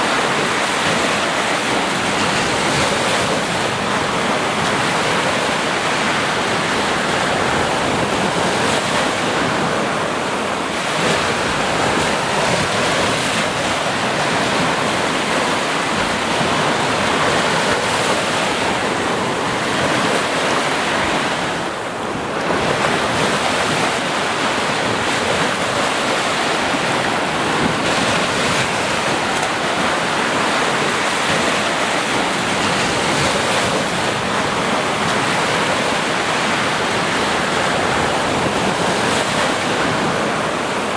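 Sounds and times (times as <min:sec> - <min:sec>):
sea waves on a beach: 0:00.0 - 0:40.9.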